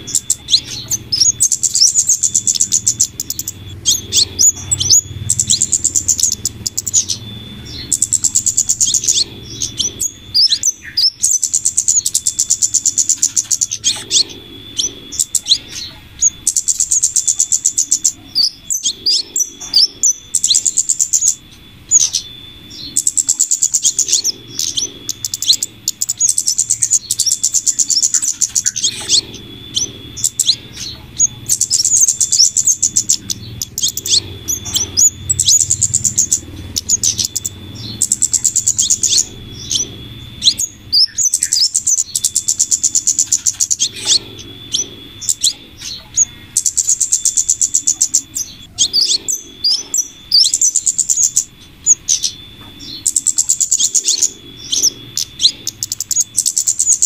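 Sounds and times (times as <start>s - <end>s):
high-pitched ticking bird trills: 0.0s - 57.0s.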